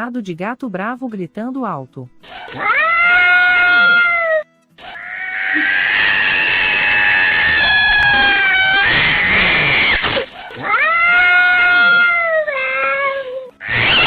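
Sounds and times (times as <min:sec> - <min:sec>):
angry cat yowling: 0:02.3 - 0:14.0.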